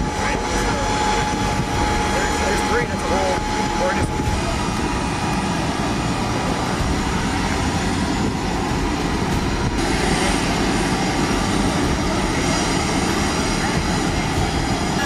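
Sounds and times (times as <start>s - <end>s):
jet engine rush with whine: 0.0s - 15.0s.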